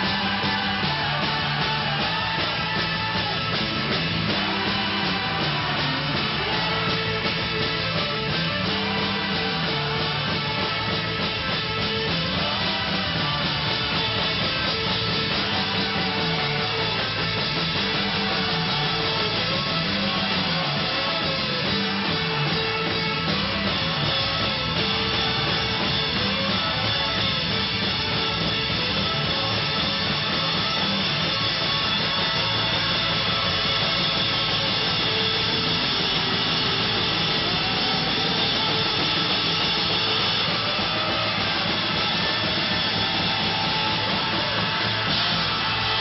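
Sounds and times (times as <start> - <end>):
drum kit: 0.0 - 46.0
electric guitar: 0.0 - 46.0.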